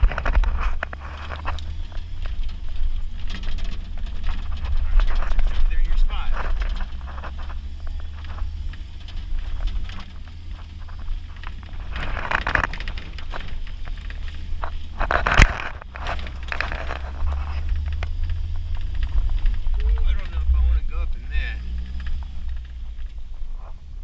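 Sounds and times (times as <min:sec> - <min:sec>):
crackling scraping bursts: 0:00.0 - 0:24.0
vehicle engine rumble: 0:00.0 - 0:24.0.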